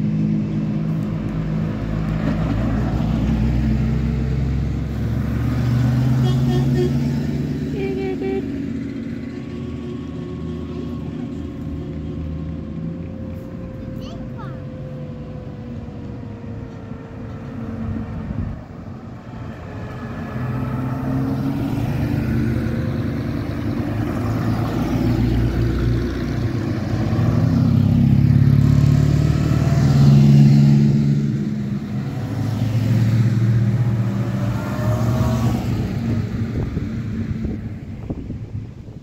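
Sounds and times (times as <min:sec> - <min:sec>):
cars driving past: 0:00.0 - 0:39.0.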